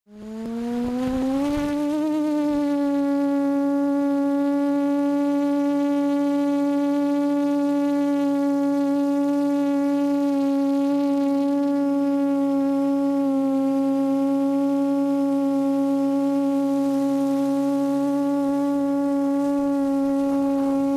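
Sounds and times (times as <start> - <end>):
quadcopter motors droning: 0.1 - 20.9.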